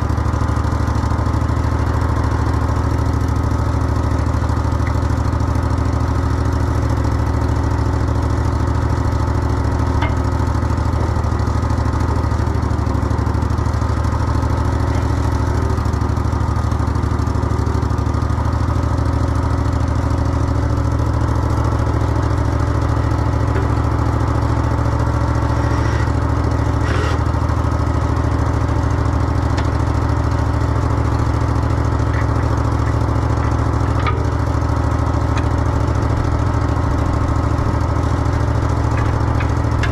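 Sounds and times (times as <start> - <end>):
skid steer engine idling: 0.0 - 39.9.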